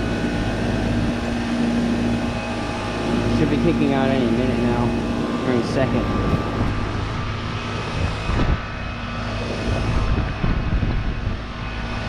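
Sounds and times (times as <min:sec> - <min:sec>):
heat pump mechanical drone: 0:00.0 - 0:12.0.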